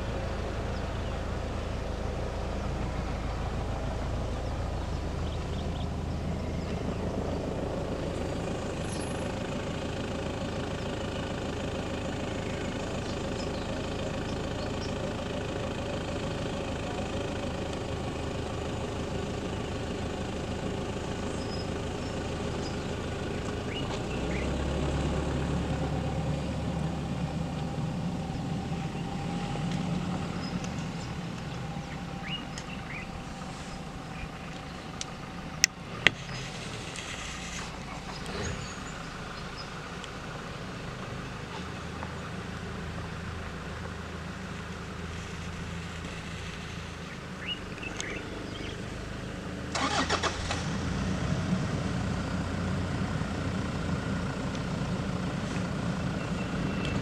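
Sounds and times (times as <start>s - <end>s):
deeper engine hum: 0.0s - 57.0s
vehicle engines idling: 0.0s - 57.0s.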